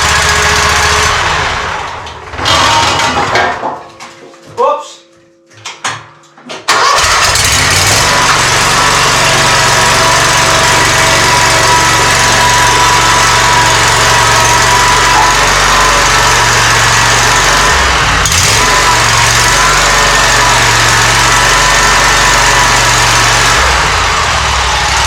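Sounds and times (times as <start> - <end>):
mower engine running: 0.0 - 3.2, 6.7 - 25.0.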